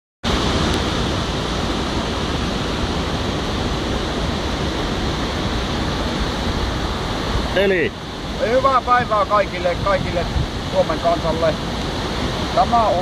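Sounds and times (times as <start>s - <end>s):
water rushing through rapids: 0.3s - 13.0s.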